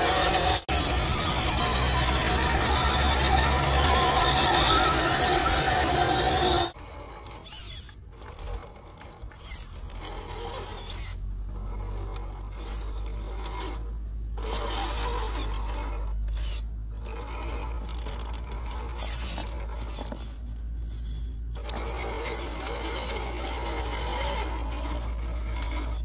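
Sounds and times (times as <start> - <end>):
electric motor and gearbox whirring: 0.0 - 26.0
tyres scraping over dry soil: 0.0 - 26.0
steady low rumble: 0.6 - 26.0.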